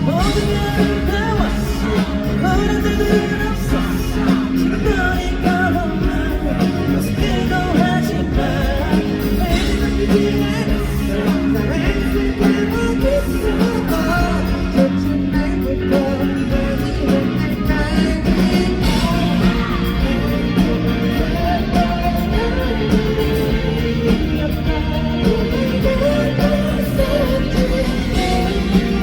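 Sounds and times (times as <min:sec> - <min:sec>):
live pop-rock band with vocals: 0:00.0 - 0:29.0.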